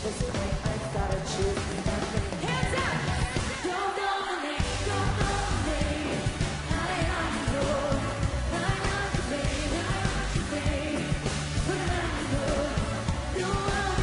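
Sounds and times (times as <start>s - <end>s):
live pop band: 0.0s - 14.0s
woman singing: 0.0s - 14.0s.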